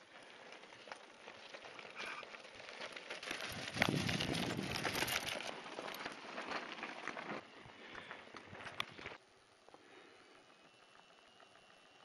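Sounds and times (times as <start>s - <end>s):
bike tyres crunching on gravel: 0.0s - 12.0s.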